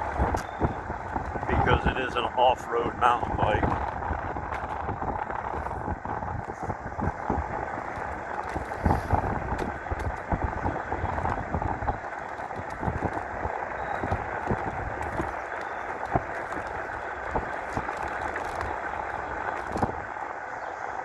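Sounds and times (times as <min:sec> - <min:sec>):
tyres rumbling on road: 0:00.0 - 0:21.0
wind buffeting microphone: 0:00.0 - 0:21.0.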